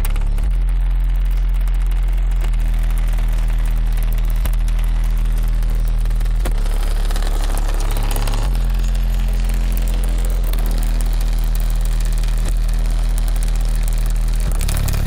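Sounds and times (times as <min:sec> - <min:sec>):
distorted deep bass notes: 0:00.0 - 0:15.0.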